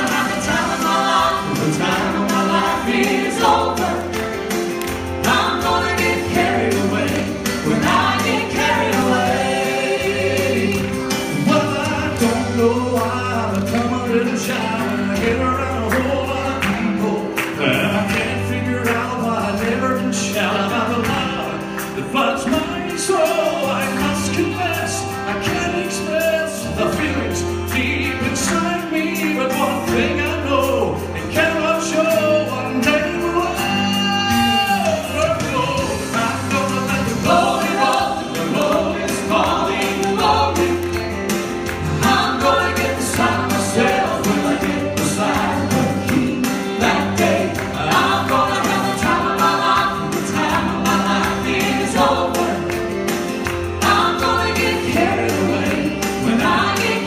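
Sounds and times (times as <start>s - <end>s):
gospel vocal trio singing: 0.0s - 57.0s.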